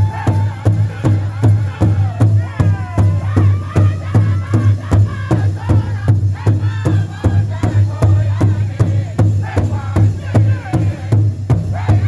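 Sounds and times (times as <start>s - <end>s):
big drum steady beat: 0.0s - 12.0s
group singing high gliding vocals: 0.0s - 12.0s.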